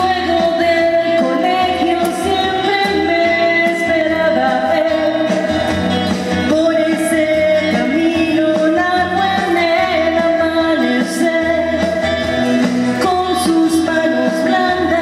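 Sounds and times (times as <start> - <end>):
instrumental accompaniment: 0.0 - 15.0
woman singing into microphone: 0.0 - 15.0.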